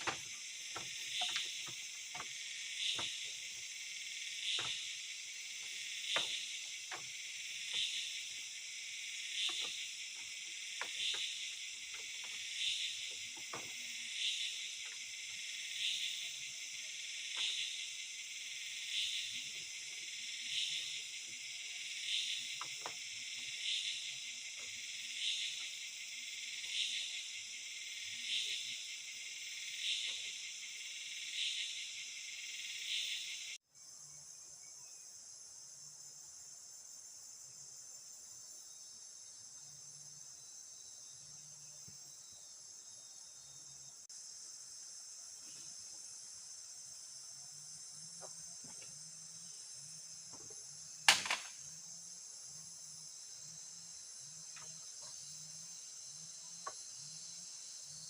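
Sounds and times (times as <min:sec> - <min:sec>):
insect chorus shrill drone: 0:00.0 - 0:58.0.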